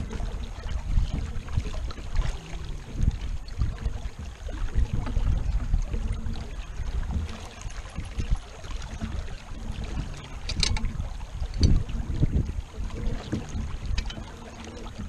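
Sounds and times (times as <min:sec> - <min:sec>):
water rushing along boat hull: 0:00.0 - 0:15.0
wind rumble on microphone: 0:00.0 - 0:15.0.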